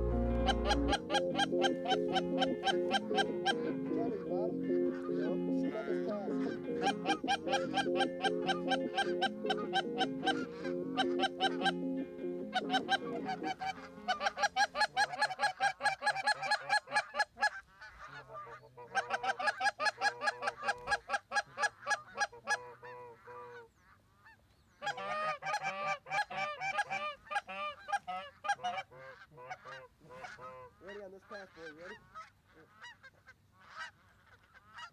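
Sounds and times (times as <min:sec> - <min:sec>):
geese honking: 0:00.0 - 0:34.9.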